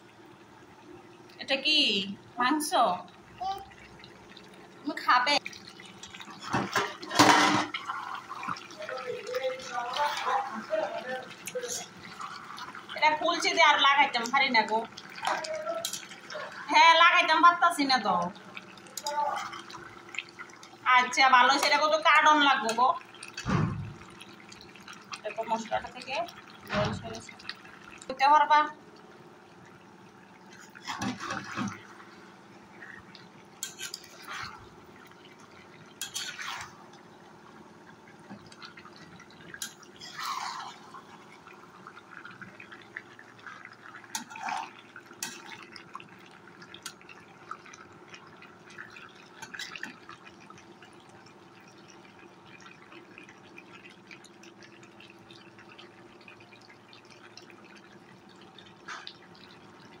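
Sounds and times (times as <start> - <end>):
faint steady hum: 0.0 - 60.0
curry bubbling and plopping: 0.1 - 60.0.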